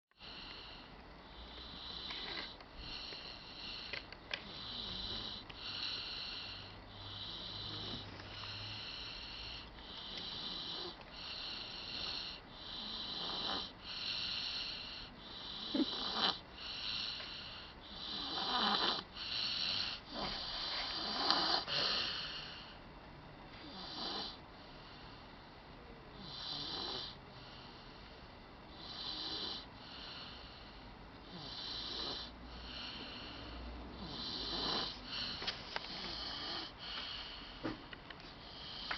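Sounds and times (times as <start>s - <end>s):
baby snoring: 0.2s - 22.7s, 23.6s - 24.4s, 26.1s - 27.2s, 28.8s - 30.6s, 31.2s - 37.4s.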